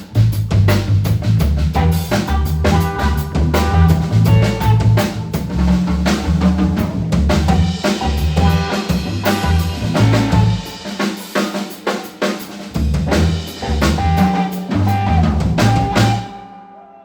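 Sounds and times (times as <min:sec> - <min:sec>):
drum kit hits and fills: 0:00.0 - 0:16.6
live blues band playing: 0:00.0 - 0:16.9.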